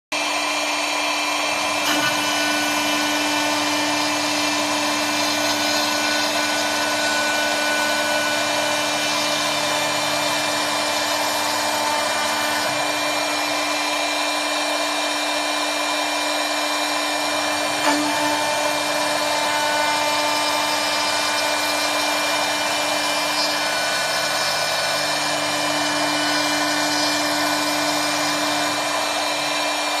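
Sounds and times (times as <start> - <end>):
router spindle high-pitched whine: 0.2 - 30.0.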